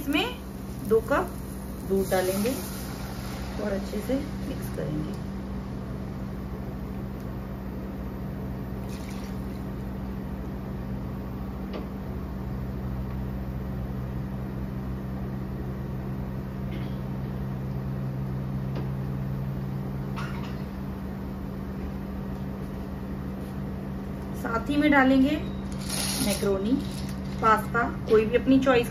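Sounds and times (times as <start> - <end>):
induction cooktop humming: 0.0 - 28.9.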